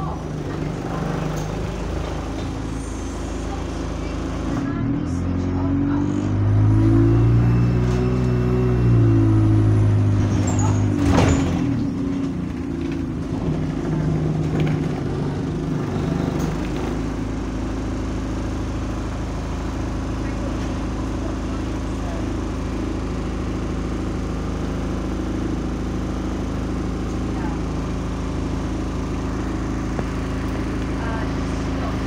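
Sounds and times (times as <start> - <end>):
bus diesel engine idling: 0.0 - 32.0.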